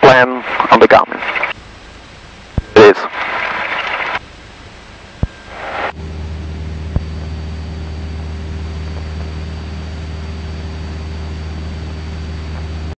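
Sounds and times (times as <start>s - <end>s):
light aircraft engine droning: 1.2s - 13.0s.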